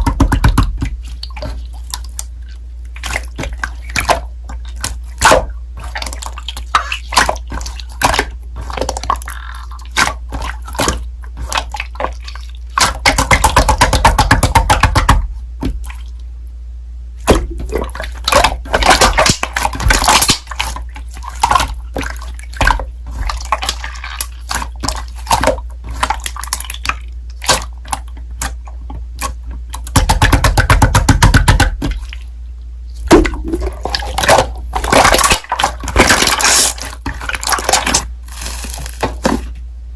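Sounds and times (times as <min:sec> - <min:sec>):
slime squished by hand: 0:00.0 - 0:16.2, 0:17.2 - 0:32.3, 0:32.9 - 0:39.6.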